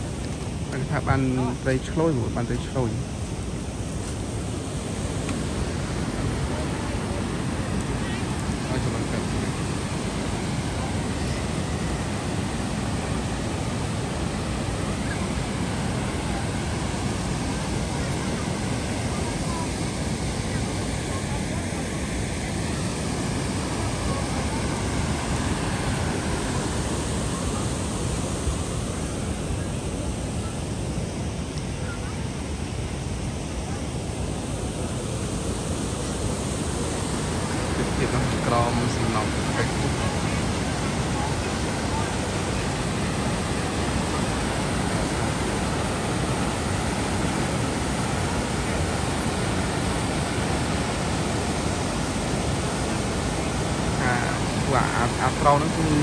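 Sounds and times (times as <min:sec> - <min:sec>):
water rushing through dam spillway: 0:00.0 - 0:56.0.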